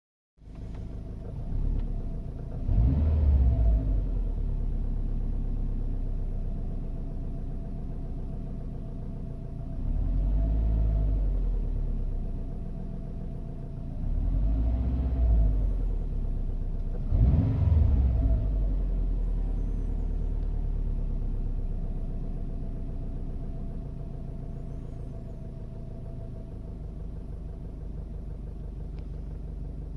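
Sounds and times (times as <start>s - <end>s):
car engine running: 0.4s - 29.9s.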